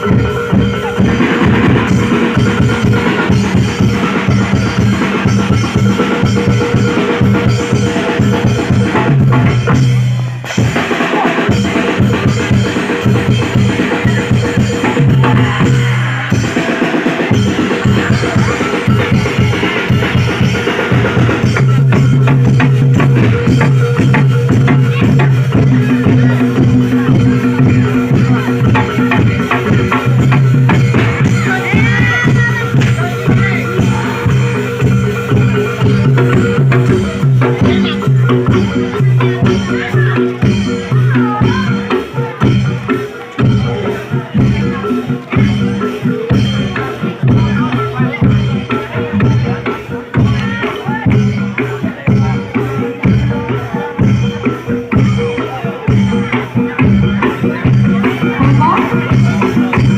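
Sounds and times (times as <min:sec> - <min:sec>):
fast dense drumming: 0:00.0 - 0:59.9
heavy bass drum: 0:00.0 - 0:59.9.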